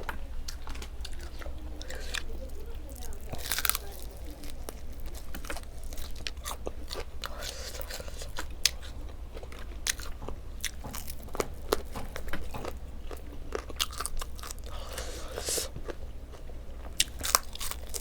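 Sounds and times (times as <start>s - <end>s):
person chewing food: 0.0s - 18.0s
steady low hum: 0.0s - 18.0s.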